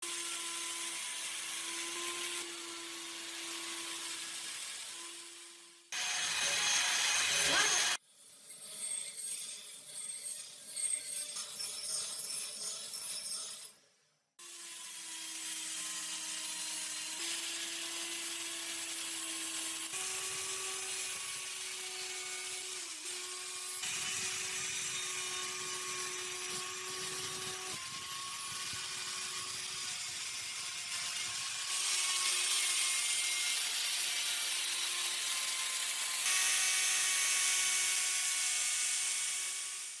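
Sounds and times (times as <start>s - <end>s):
power tool grinding metal: 0.0s - 13.8s, 14.4s - 40.0s.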